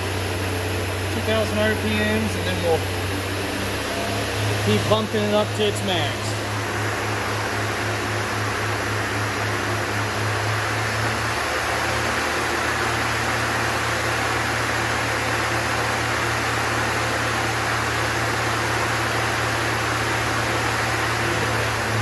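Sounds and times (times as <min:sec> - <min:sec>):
machine spindle whirring: 0:00.0 - 0:22.0.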